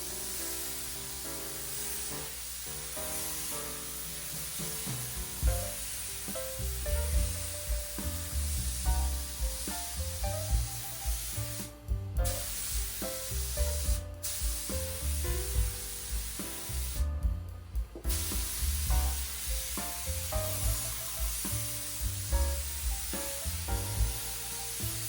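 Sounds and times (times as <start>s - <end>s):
spray hiss: 0.0s - 17.1s, 18.0s - 25.0s.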